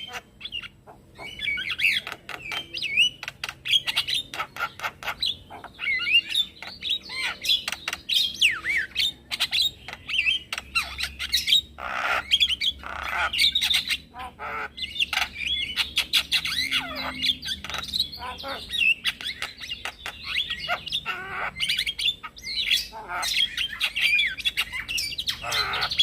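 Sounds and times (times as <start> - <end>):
bird harsh squawk: 0.0 - 26.0.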